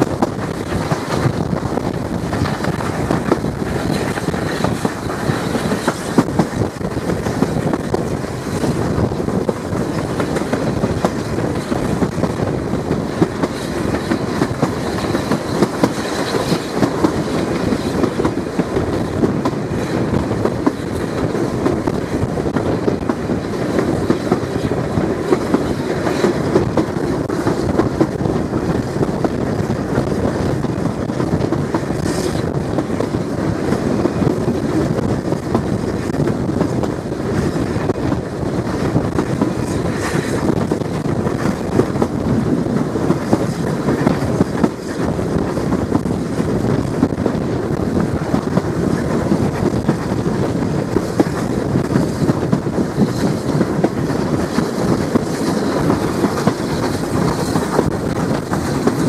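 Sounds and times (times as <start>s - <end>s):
train rumbling along track: 0.0s - 59.0s.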